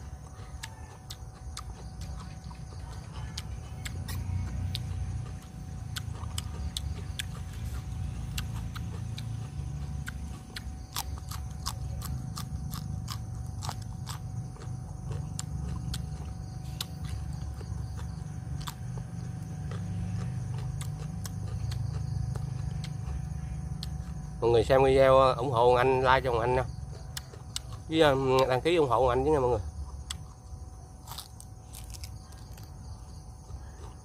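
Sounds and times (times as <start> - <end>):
person chewing with crisp clicks: 0.1 - 24.3, 26.7 - 28.5, 29.8 - 34.0.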